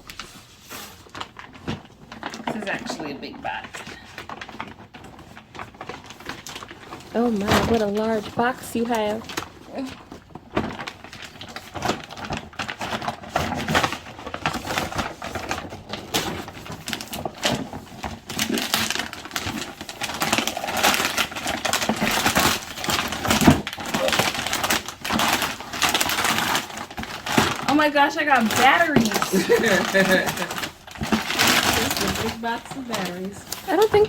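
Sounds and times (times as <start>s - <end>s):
packaging crinkling and tearing: 0.0s - 34.0s.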